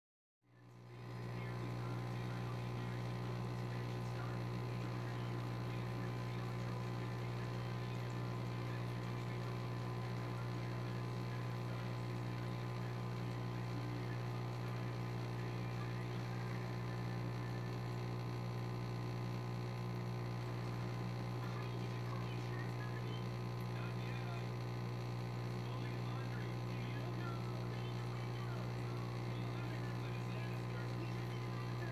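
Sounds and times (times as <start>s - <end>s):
faint fizzy crackle: 0.6s - 31.9s
air pump humming: 0.7s - 31.9s.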